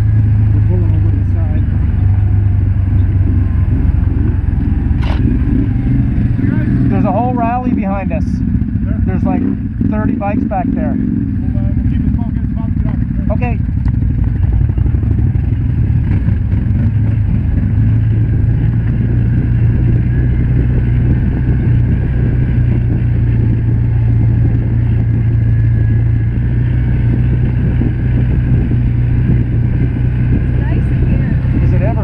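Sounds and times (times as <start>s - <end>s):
utility vehicle engine running: 0.0s - 32.0s.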